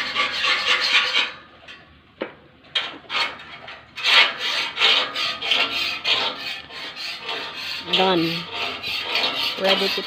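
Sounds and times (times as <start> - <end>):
rasping scraping strokes: 0.0 - 1.4, 3.0 - 10.0.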